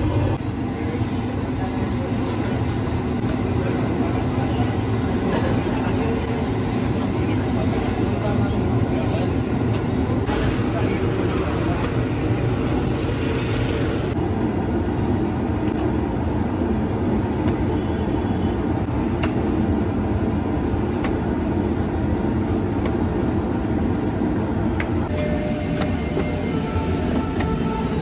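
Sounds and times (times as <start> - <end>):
low rumble of street traffic: 0.0 - 28.0.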